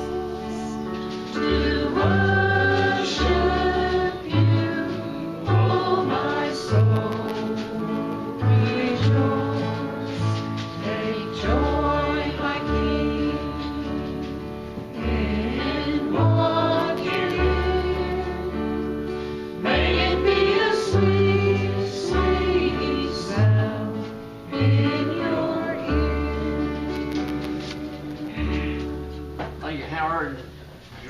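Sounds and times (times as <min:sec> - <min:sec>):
congregation singing a hymn: 0:00.0 - 0:29.8.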